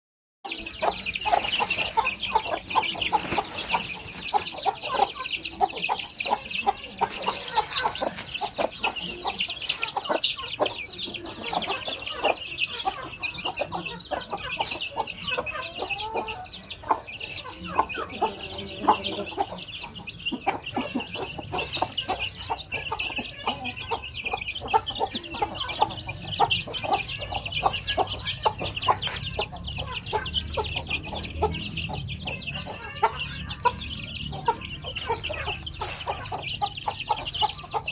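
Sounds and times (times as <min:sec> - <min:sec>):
chickens clucking: 0:00.5 - 0:37.9
chicks peeping: 0:00.5 - 0:37.9.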